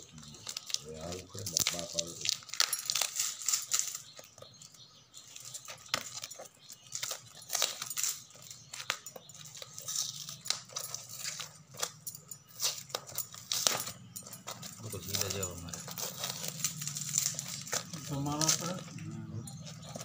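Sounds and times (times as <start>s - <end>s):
fingers crinkling taped parcel: 0.0s - 20.0s.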